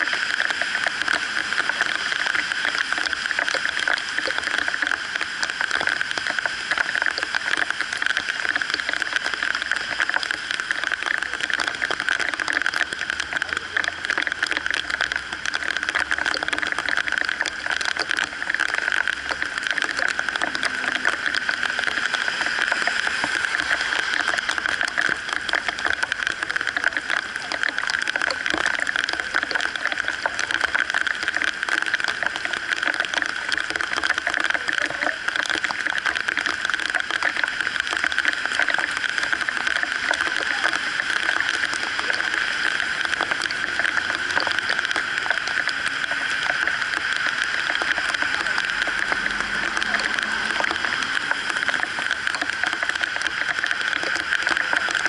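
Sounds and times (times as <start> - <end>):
heavy rain on a wet street: 0.0 - 55.0
vehicles driving on wet road: 0.0 - 55.0.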